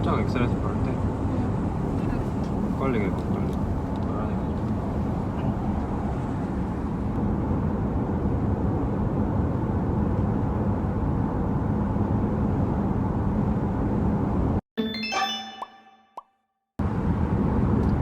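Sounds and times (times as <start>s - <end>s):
road and tyre noise in car cabin: 0.0s - 14.6s, 16.8s - 18.0s.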